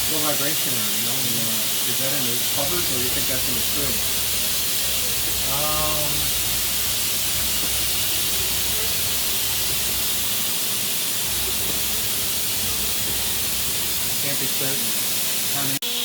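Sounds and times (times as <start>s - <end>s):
machine spindle hissing: 0.0s - 16.0s.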